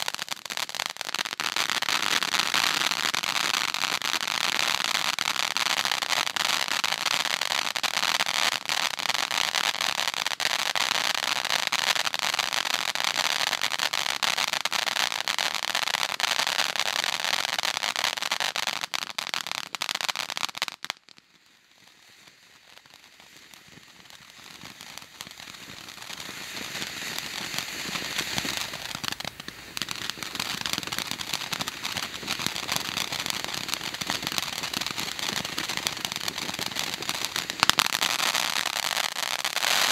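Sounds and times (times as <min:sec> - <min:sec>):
firework fountain hissing and crackling: 0:00.0 - 0:39.9.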